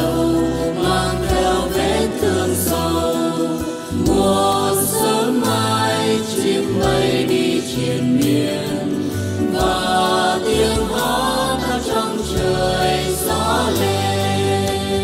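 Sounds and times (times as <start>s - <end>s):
instrumental accompaniment: 0.0s - 15.0s
vocal group singing in harmony: 0.0s - 15.0s.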